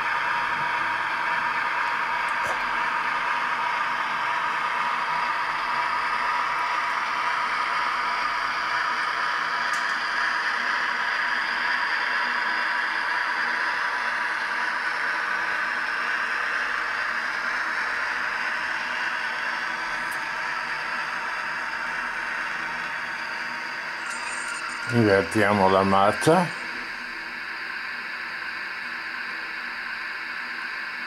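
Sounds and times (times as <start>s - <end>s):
model locomotive electric whir: 0.0s - 31.0s.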